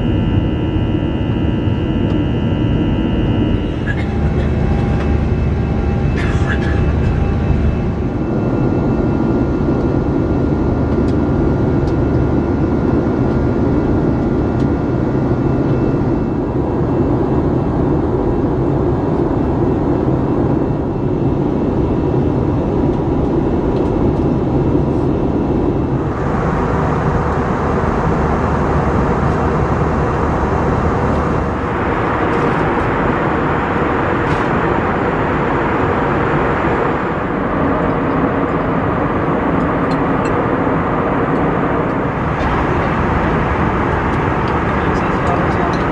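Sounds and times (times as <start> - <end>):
jet cabin engine rumble: 0.0 - 45.9.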